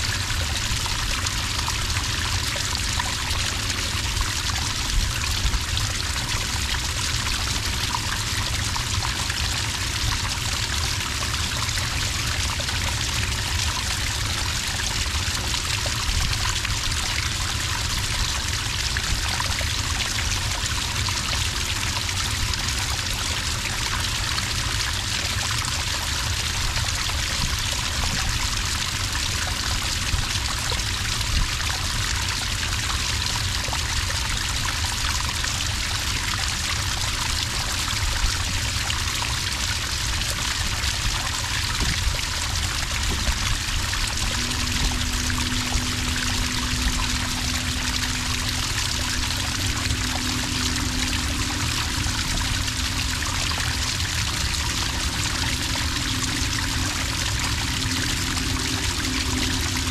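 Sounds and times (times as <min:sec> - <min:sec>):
water trickling into sand: 0:00.0 - 0:59.9.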